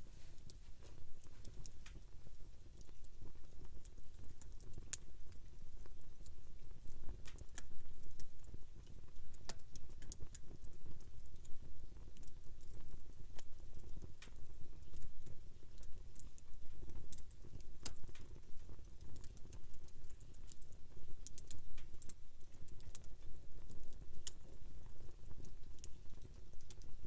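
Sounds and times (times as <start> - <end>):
campfire crackling: 0.0 - 11.5, 12.2 - 27.0.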